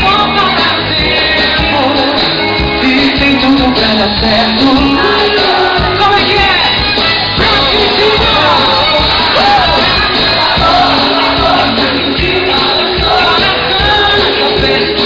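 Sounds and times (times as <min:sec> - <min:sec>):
person singing: 0:00.0 - 0:06.8, 0:07.4 - 0:15.0
drum beat: 0:00.0 - 0:15.0
live band playing pop music: 0:00.0 - 0:15.0.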